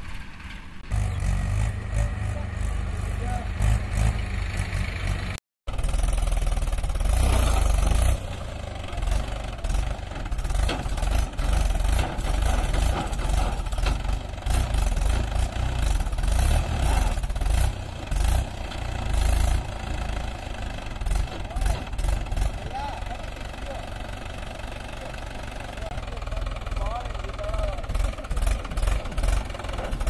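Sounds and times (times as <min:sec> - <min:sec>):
tractor diesel engine revving: 0:00.0 - 0:30.0.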